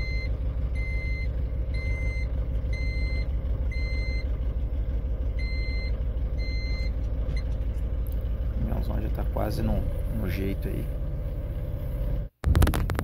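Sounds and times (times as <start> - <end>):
truck engine idling: 0.0 - 12.4.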